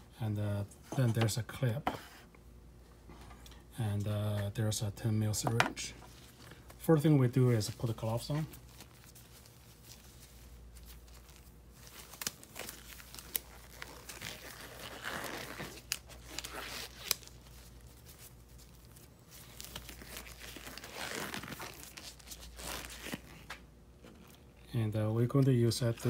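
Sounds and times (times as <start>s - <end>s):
disposable gloves rustling: 4.3s - 26.0s.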